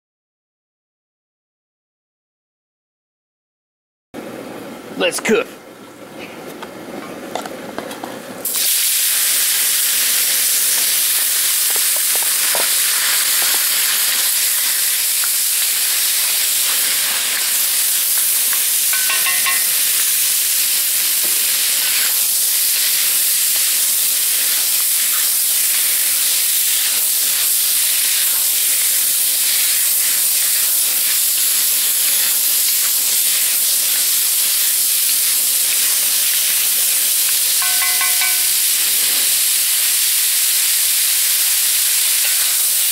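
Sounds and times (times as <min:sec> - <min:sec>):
beef sizzling in wok: 0:08.4 - 0:42.9.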